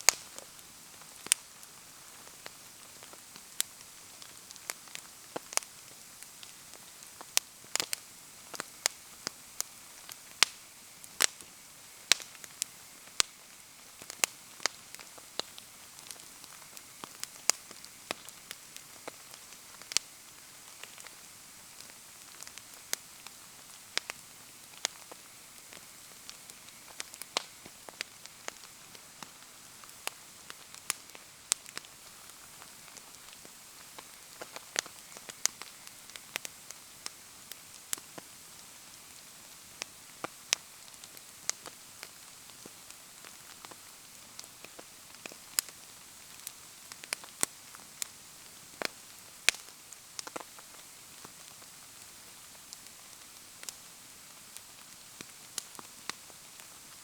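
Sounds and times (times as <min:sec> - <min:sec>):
bonfire crackling: 0:00.0 - 0:57.0.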